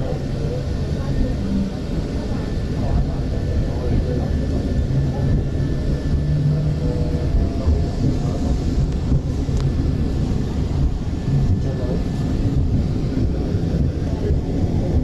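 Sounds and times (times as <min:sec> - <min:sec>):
tramcar rumbling: 0:00.0 - 0:15.0.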